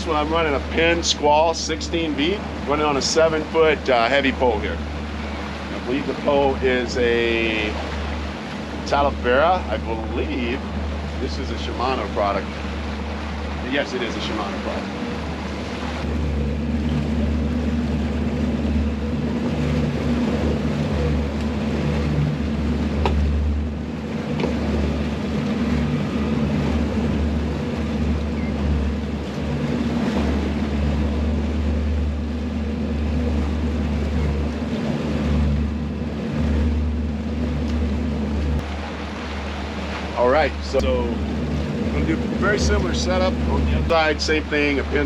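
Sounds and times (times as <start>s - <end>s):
outboard engines droning: 0.0s - 45.0s
water rushing along hull: 0.0s - 45.0s.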